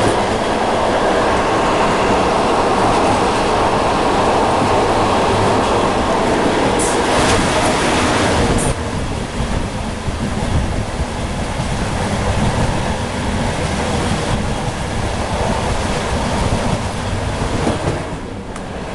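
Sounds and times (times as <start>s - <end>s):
electric locomotive rumbling: 0.0s - 18.9s.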